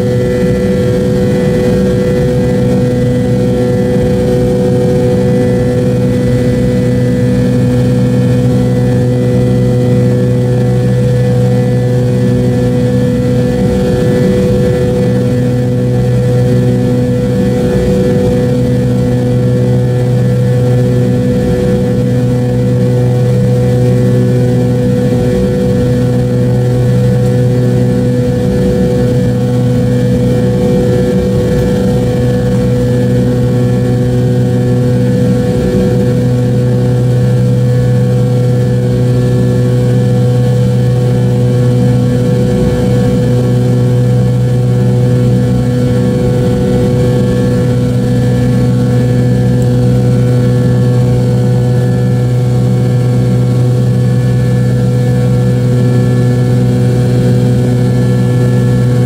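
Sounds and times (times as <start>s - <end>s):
jet engines droning in cabin: 0.0s - 59.0s.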